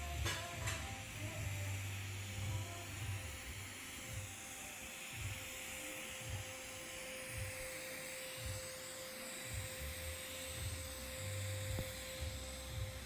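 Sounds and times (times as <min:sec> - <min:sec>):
electrical hum: 0:00.0 - 0:13.0
welding arc hissing: 0:00.0 - 0:13.0.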